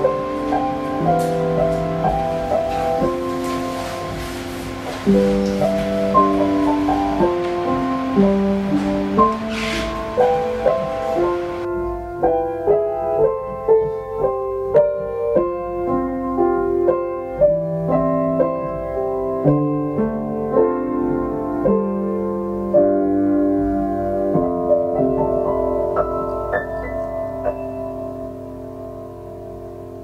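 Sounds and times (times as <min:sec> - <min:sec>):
gentle piano melody: 0:00.0 - 0:30.0.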